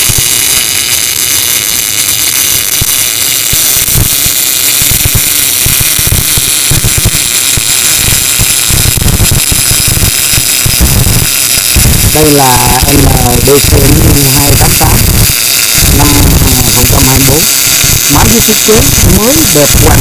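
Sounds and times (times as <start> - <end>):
welding arc hissing and crackling: 0.0 - 20.0.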